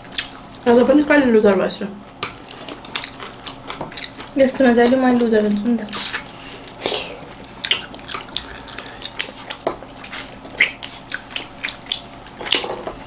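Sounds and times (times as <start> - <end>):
wet chewing and lip-smacking: 0.0 - 1.2, 2.2 - 12.7.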